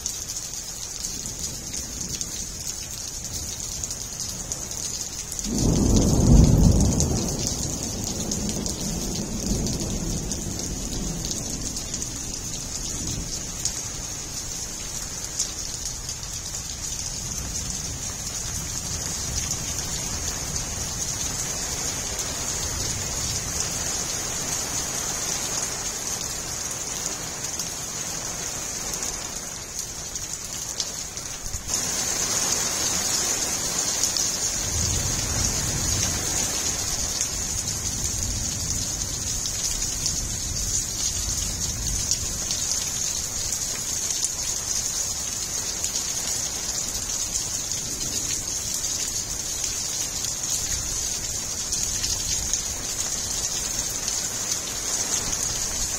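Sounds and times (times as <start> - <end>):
heavy rain on gravel: 0.0 - 55.9.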